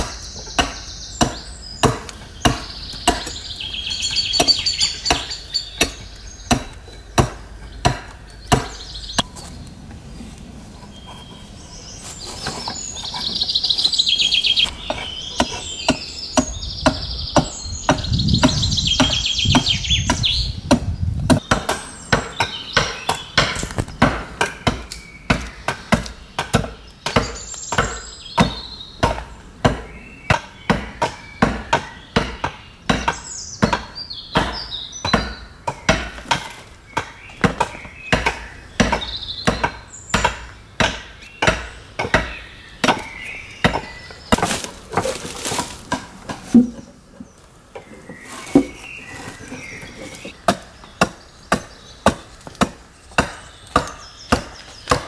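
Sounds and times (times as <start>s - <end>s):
adze chopping wood: 0.0s - 3.4s, 4.4s - 9.3s, 14.9s - 55.0s
birds singing: 0.0s - 55.0s.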